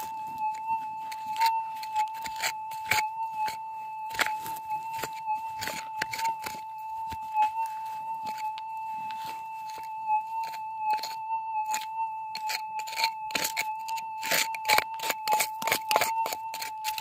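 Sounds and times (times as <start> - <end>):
pick scraping and clinking on stones: 0.0 - 7.6, 9.6 - 17.0
metal detector steady tone: 0.0 - 17.0.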